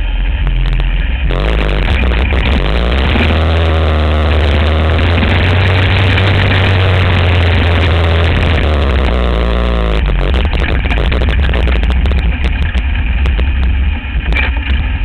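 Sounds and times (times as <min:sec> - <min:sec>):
trike engine running: 0:00.0 - 0:15.0
wind on microphone: 0:00.4 - 0:15.0.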